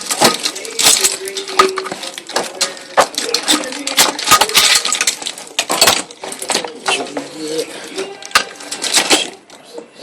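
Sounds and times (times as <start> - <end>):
metal tools clinking: 0.0 - 9.4.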